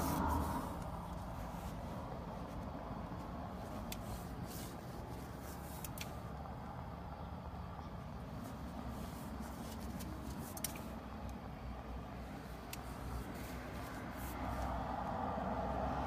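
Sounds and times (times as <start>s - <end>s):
motorway traffic rumble: 0.0s - 16.0s.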